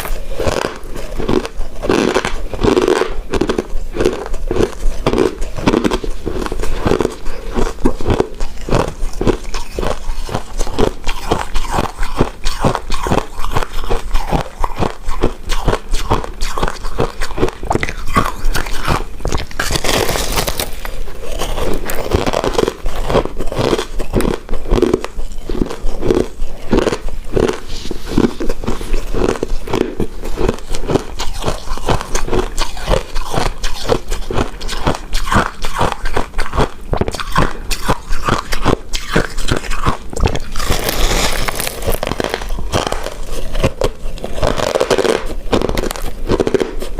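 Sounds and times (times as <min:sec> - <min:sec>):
chewing sticky rice cake: 0:00.0 - 0:46.9.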